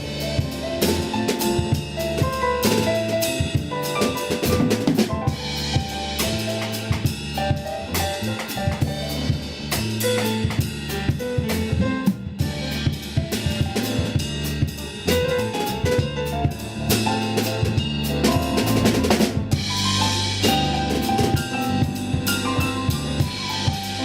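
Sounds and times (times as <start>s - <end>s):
band music: 0.0s - 24.0s
bass guitar line: 0.0s - 24.0s
drum kit beat: 0.0s - 24.0s.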